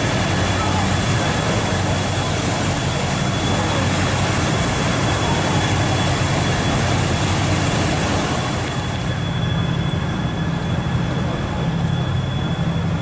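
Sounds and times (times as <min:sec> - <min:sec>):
high whine: 0:00.0 - 0:13.0
paddle wheel splashing water: 0:00.0 - 0:13.0.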